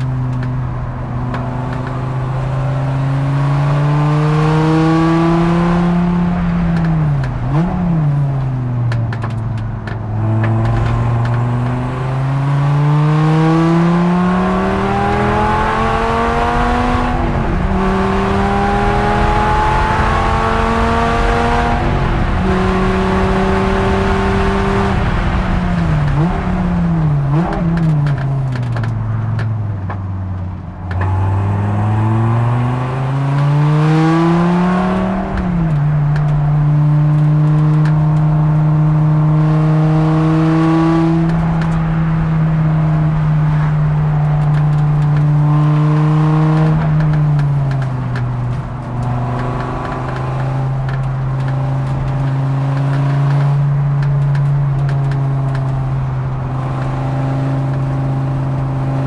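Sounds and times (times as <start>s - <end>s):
racing car engine revving: 0.0s - 29.6s, 30.9s - 59.0s.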